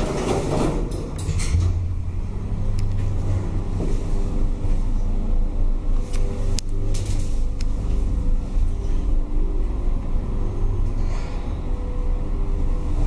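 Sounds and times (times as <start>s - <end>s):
hydraulic lift rumble and hum: 0.0s - 13.0s.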